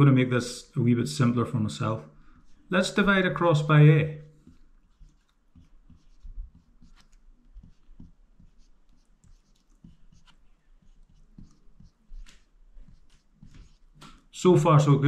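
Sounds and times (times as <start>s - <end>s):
marker pen writing on whiteboard: 1.9s - 14.4s.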